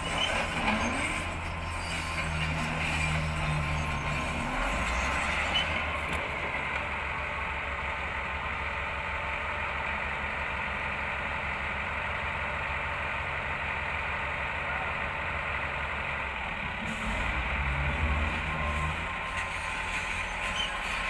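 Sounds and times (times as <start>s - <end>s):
heavy diesel engine rumbling: 0.0s - 21.0s.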